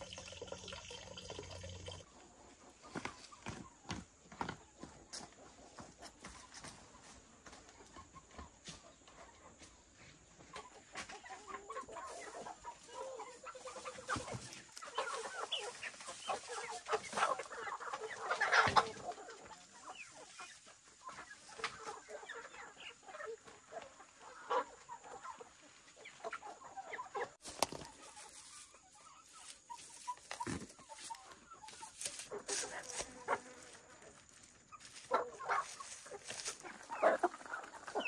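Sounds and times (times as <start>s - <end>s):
chickens clucking: 0.0s - 38.0s
roosters calling: 1.9s - 38.0s.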